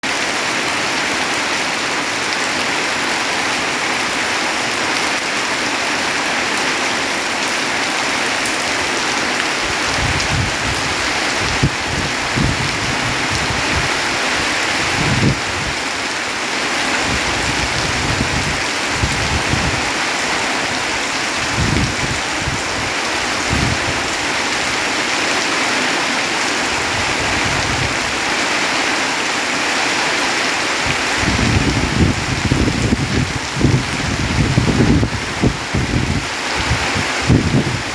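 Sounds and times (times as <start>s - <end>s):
heavy rain hissing: 0.0s - 37.9s.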